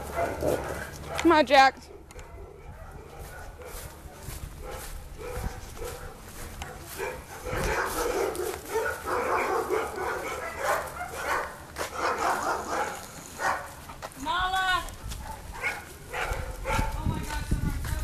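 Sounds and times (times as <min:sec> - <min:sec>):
dogs barking: 0:00.0 - 0:14.0, 0:15.1 - 0:17.1.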